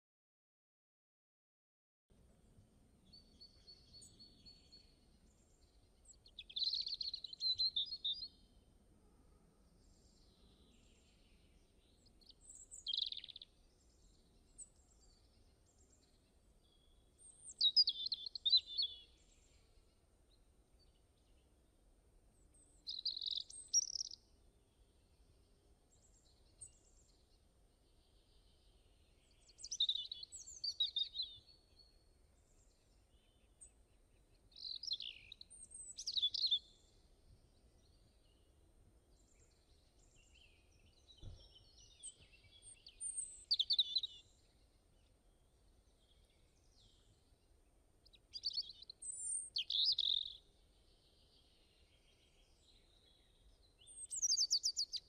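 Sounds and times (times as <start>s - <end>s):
bird chirping: 3.1s - 8.6s, 9.7s - 21.5s, 22.3s - 55.0s.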